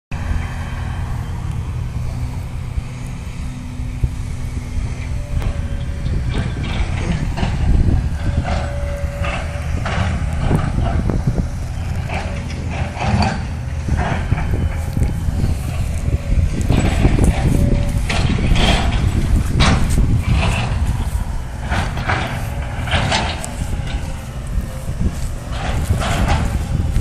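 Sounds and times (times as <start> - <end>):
distant diesel machinery rumble: 0.1 - 27.0.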